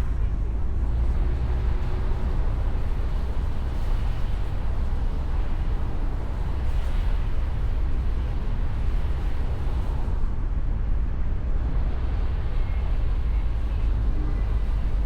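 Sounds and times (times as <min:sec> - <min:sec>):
wind and road noise rumble: 0:00.0 - 0:15.0.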